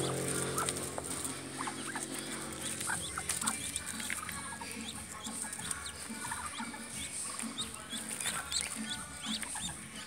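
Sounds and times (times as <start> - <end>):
ducklings peeping: 0.0 - 10.0.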